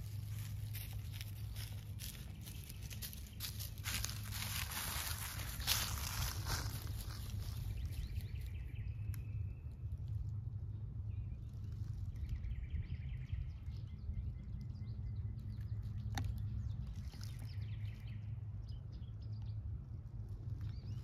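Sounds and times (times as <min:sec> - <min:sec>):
birds chirping faintly: 0:00.0 - 0:21.0
low rumble: 0:00.0 - 0:21.0.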